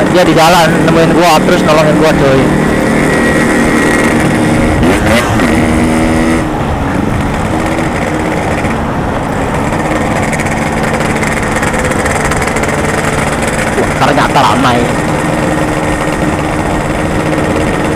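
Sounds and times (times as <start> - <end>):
two-stroke motorcycle engine revving: 0.0 - 17.9
wind rushing on microphone: 0.0 - 17.9.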